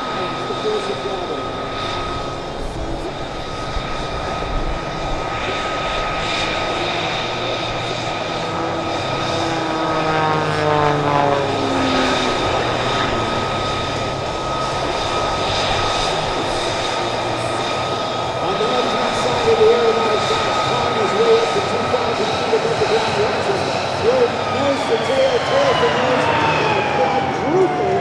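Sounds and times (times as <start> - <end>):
plane engine and propeller: 0.0 - 28.0.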